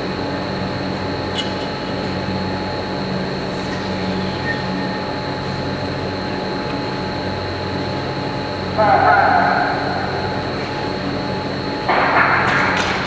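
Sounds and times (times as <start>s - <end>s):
machinery hum and rumble: 0.0s - 13.0s.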